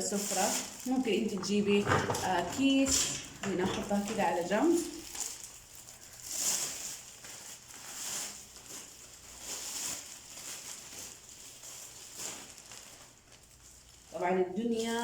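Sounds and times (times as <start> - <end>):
floor spread rustling and crinkling: 0.0 - 15.0.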